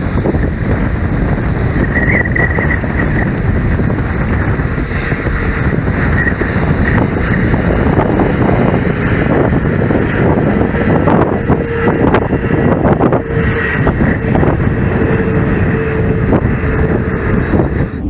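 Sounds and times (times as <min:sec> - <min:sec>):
distant jet engines running: 0:00.0 - 0:18.0
wind buffeting microphone: 0:00.0 - 0:18.0.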